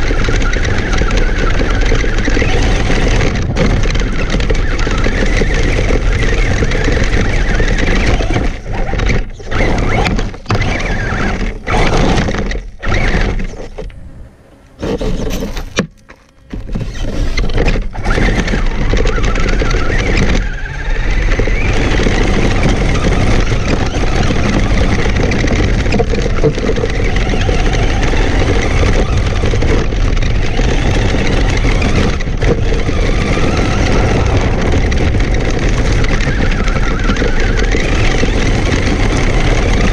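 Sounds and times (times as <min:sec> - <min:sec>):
toy truck driving over gravel: 0:00.0 - 0:14.0, 0:14.7 - 0:39.9.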